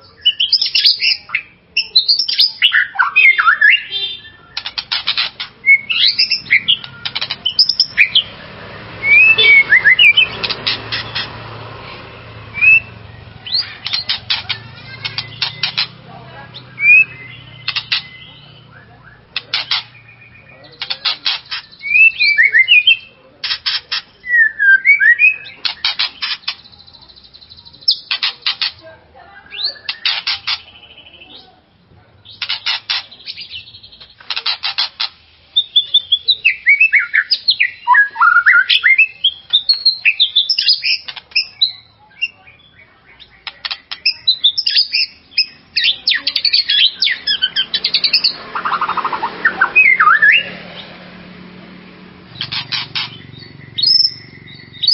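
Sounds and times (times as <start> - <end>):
bird singing rattles and whistles: 0.0 - 8.4, 9.0 - 11.6, 12.4 - 28.8, 29.4 - 31.2, 32.2 - 50.6, 52.3 - 54.9.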